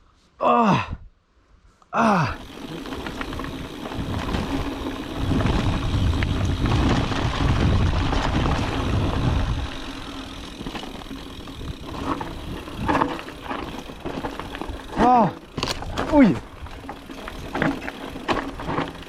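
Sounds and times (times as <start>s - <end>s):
bike tyres rumbling over trail: 2.0s - 19.0s.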